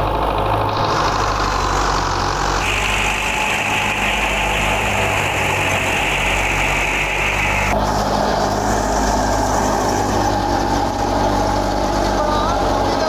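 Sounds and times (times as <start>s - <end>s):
thresher drum and belts hissing: 0.0s - 13.0s
tractor diesel engine running: 0.0s - 13.0s.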